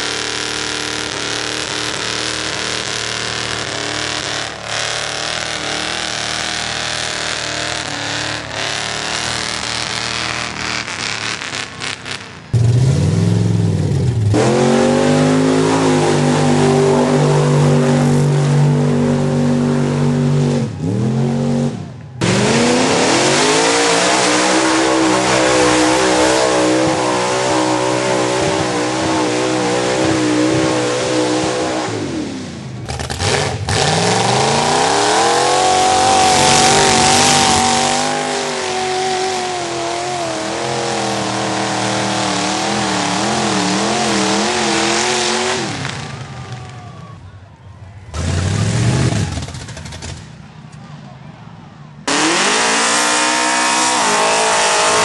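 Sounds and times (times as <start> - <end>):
truck engines revving hard: 0.0 - 47.4, 48.0 - 50.8, 51.9 - 55.0.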